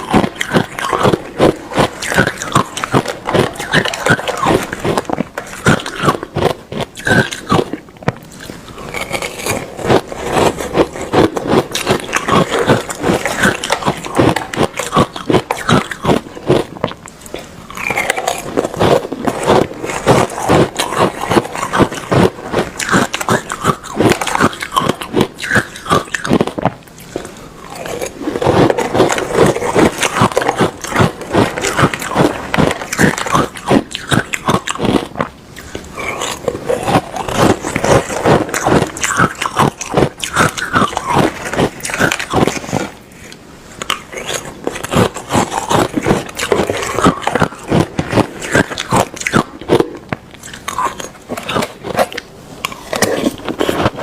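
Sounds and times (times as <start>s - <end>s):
person chewing ice: 0.0s - 54.0s.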